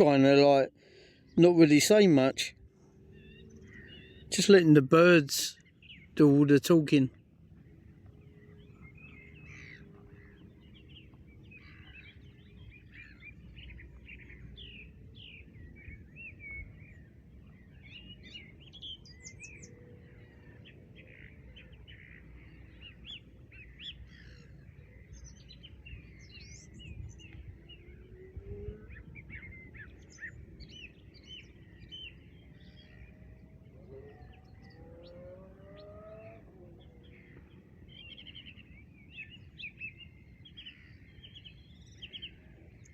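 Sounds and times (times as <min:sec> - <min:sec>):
songbirds chirping and singing: 0:00.0 - 0:42.9
lower sliding bird calls: 0:08.4 - 0:42.9.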